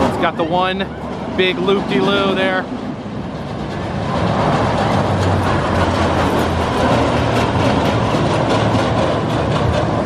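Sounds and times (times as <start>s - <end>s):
roller coaster rumbling on track: 0.0s - 10.0s.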